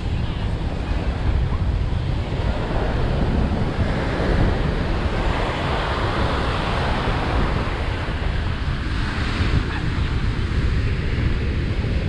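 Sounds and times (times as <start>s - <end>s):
ocean surf washing on beach: 0.0s - 12.0s
wind rumbling on microphone: 0.0s - 12.0s.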